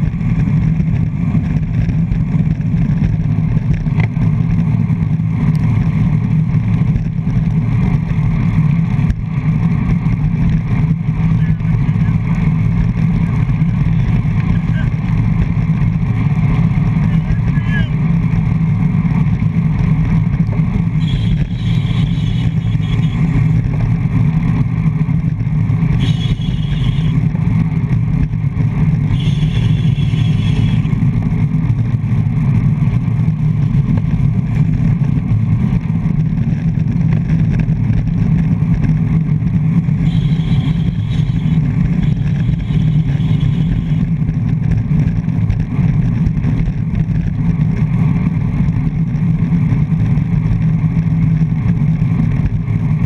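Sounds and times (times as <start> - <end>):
road and tyre noise: 0.0 - 53.0.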